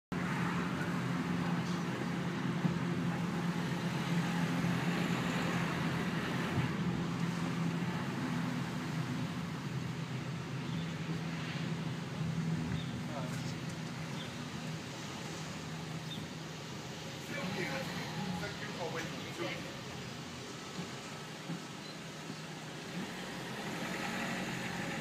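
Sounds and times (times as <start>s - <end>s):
car engine hum: 0.1s - 25.0s
tyre and road noise: 0.1s - 25.0s.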